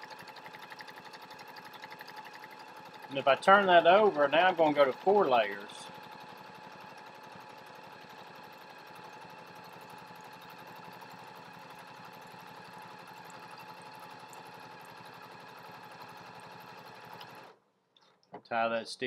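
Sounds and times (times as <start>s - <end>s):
sewing machine stitching: 0.0s - 17.6s.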